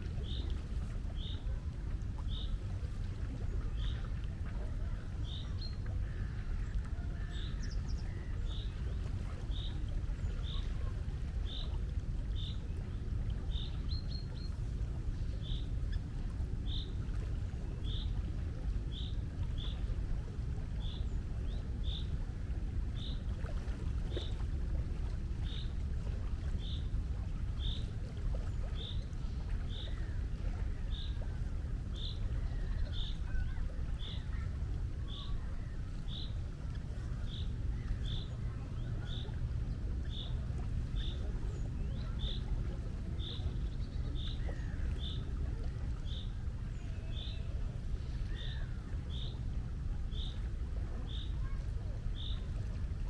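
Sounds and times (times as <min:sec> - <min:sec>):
sea rushing: 0:00.0 - 0:53.0.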